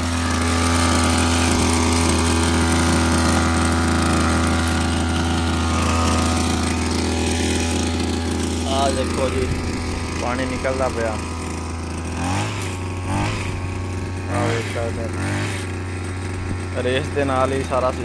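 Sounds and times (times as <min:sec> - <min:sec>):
small two-stroke engine running: 0:00.0 - 0:18.0.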